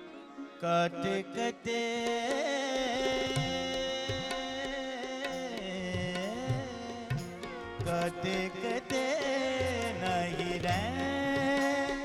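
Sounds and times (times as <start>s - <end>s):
tabla with sliding bass drum: 2.2s - 12.0s.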